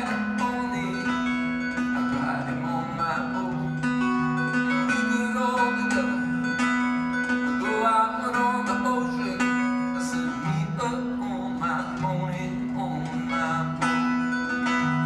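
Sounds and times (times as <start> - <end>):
acoustic guitars plucked and strummed: 0.0 - 15.0.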